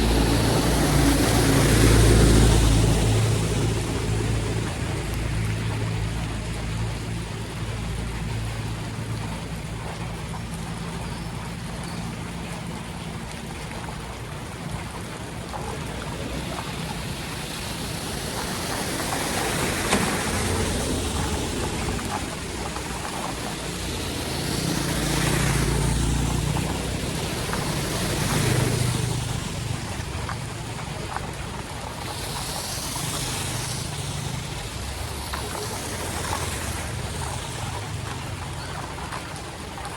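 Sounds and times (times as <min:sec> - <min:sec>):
flood water rushing: 0:00.0 - 0:39.9
water swishes: 0:00.0 - 0:39.9.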